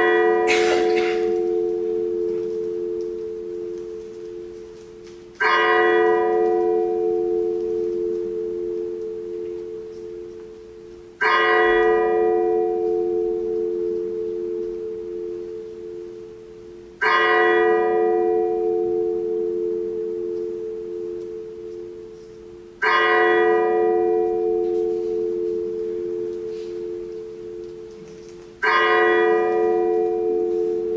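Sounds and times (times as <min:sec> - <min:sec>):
bell tolling slowly: 0:00.0 - 0:30.9.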